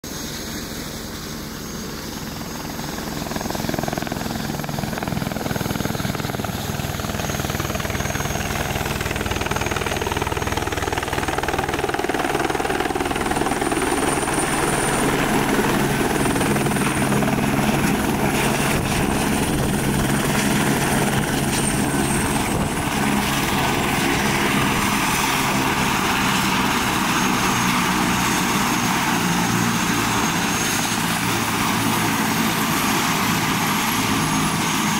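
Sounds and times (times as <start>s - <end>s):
helicopter rotor beating: 0.1s - 34.9s
high turbine whine: 0.1s - 34.9s.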